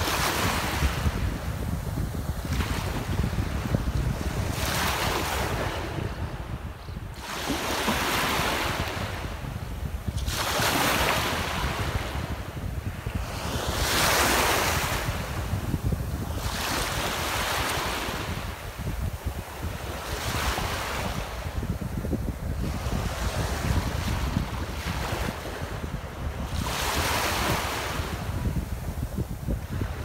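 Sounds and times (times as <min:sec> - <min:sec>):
small waves washing on shore: 0:00.0 - 0:30.0
wind rumble on microphone: 0:00.0 - 0:30.0.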